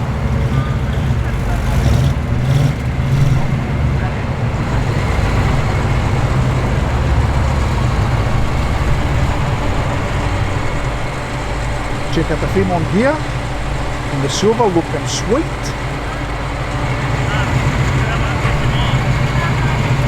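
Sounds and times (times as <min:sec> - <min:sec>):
car engines rumbling at low speed: 0:00.0 - 0:20.0.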